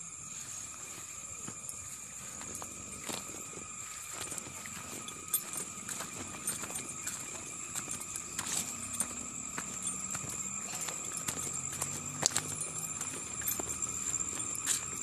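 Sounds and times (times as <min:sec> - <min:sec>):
high-pitched insect drone: 0:00.0 - 0:15.0
footsteps on gravel path: 0:00.3 - 0:15.0.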